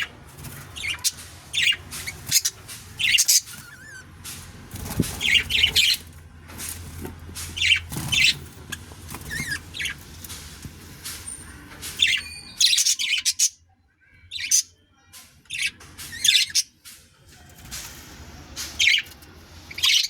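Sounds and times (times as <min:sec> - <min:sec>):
budgerigars chirping and squawking: 0:00.0 - 0:13.6, 0:14.2 - 0:20.0.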